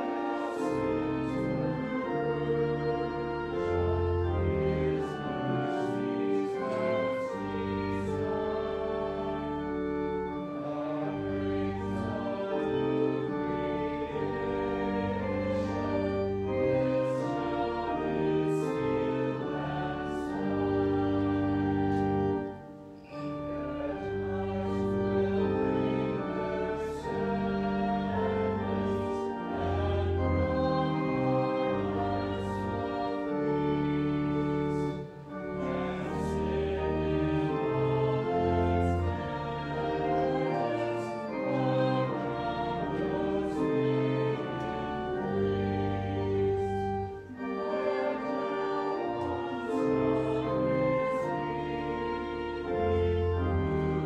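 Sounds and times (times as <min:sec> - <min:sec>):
choir singing held chords: 0:00.0 - 0:54.0.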